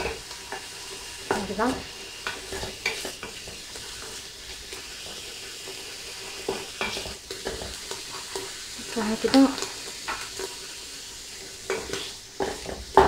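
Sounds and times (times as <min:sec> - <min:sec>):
mushrooms sizzling in oil: 0:00.0 - 0:13.0.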